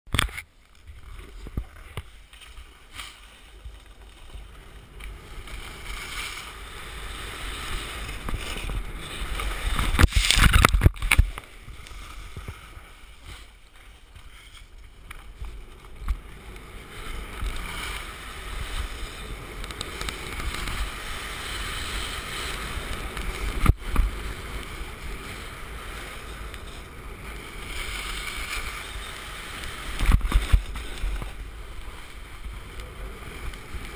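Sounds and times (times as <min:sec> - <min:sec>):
skis scraping packed snow: 0:00.2 - 0:33.9
wind on microphone: 0:03.4 - 0:33.9.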